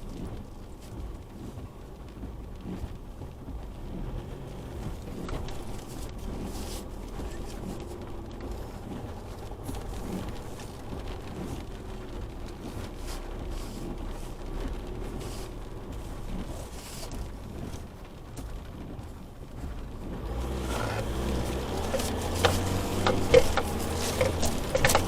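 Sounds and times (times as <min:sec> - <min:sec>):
rain on vehicle: 0:00.0 - 0:25.0
diesel engine running: 0:01.9 - 0:25.0.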